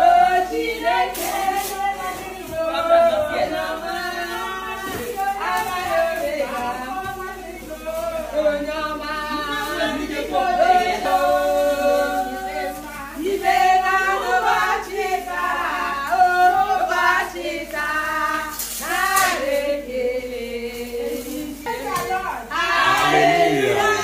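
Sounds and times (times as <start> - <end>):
voices singing: 0.0 - 24.0.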